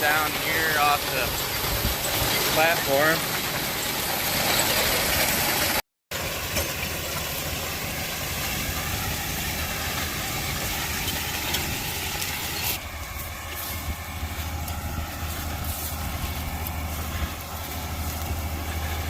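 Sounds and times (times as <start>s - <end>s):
farm machinery engine drone: 0.0s - 19.0s.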